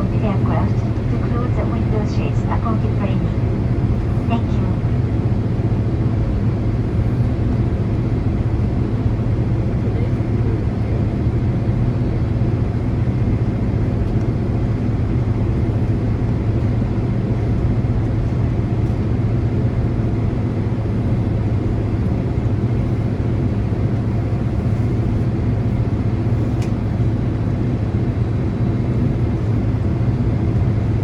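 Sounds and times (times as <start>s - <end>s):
jet engines idling: 0.0s - 31.0s.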